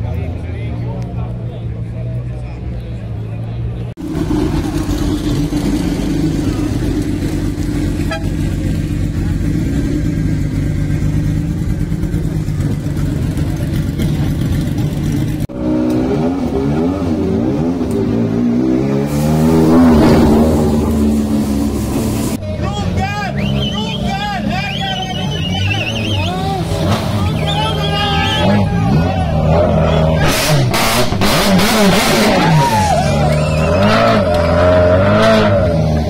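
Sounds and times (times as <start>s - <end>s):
rally car engine at low revs: 0.0s - 22.4s, 24.4s - 36.0s
turbocharged engine revving: 4.0s - 22.4s, 24.5s - 36.0s.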